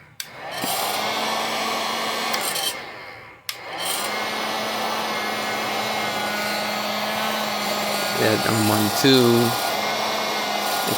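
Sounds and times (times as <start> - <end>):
hot-air blower rushing: 0.0 - 10.9.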